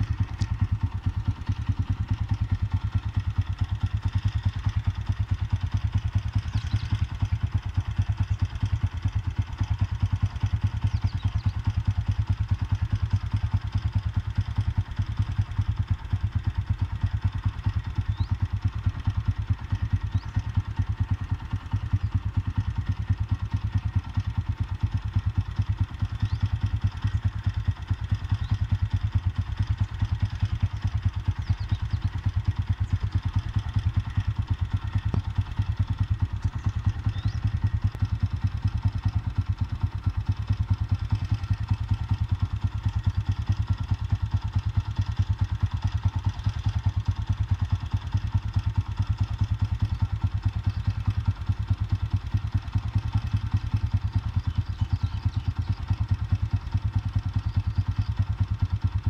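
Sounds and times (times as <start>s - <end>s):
engine idling with low thumping: 0.0s - 59.0s.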